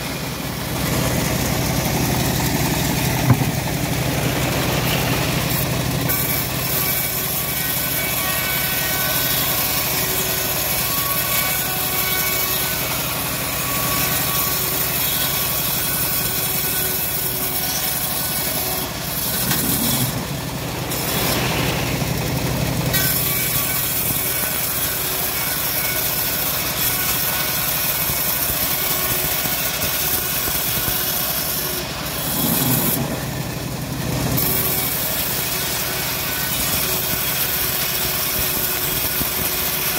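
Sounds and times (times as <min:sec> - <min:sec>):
bandsaw mill hum: 0:00.0 - 0:39.9
blade hissing through wood: 0:00.6 - 0:33.7.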